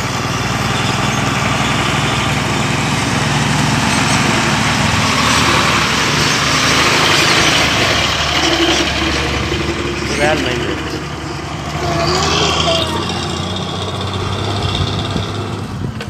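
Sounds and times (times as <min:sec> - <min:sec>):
truck engine passing by: 0:00.0 - 0:16.0.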